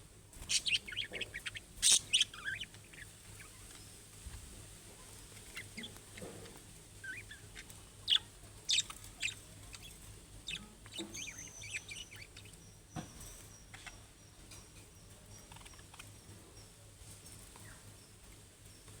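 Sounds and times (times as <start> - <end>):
budgerigars chirping and chattering: 0.4 - 4.1, 4.9 - 19.0.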